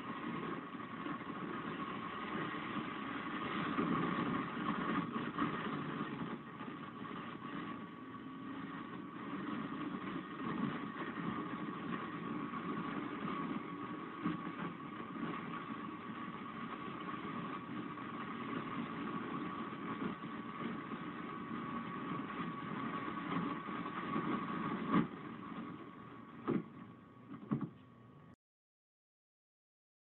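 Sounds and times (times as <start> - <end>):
car engine and road noise: 0.0 - 28.4
steady high whine: 0.0 - 28.4.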